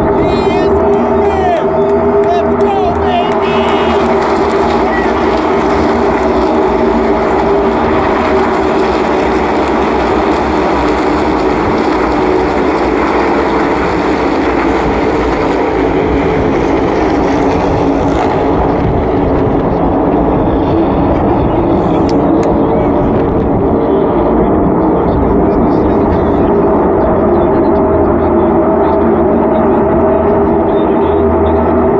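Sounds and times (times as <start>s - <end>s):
race car engines droning: 0.0s - 31.9s.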